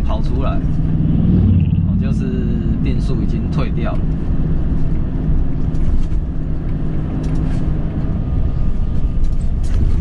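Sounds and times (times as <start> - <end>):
diesel truck engine droning: 0.0 - 10.0
road noise: 0.0 - 10.0.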